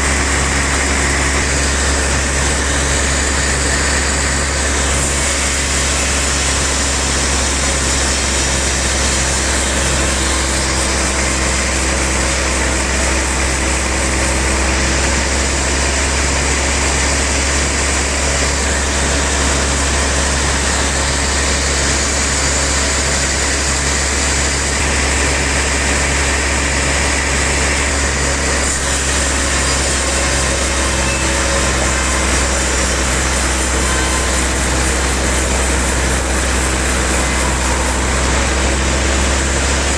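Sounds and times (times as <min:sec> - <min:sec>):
bandsaw machinery drone: 0:00.0 - 0:39.9.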